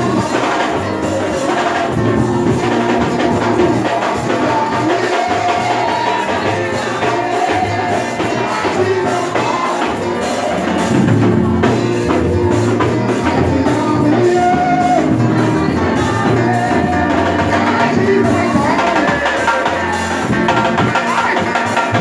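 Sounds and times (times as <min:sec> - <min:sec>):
person singing: 0:00.0 - 0:11.8, 0:12.5 - 0:22.0
bass line: 0:00.0 - 0:22.0
drum kit: 0:00.0 - 0:22.0
gospel band music: 0:00.0 - 0:22.0.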